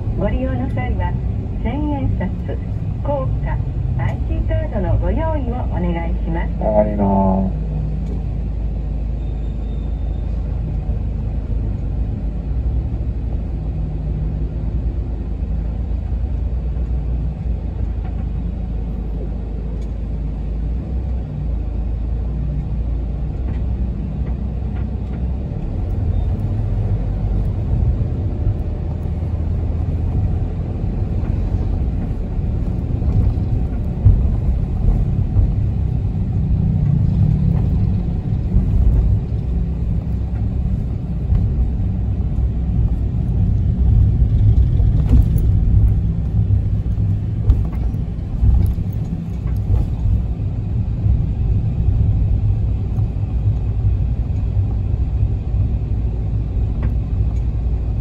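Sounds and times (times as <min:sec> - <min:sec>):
minibus engine and road rumble: 0:00.0 - 0:58.0.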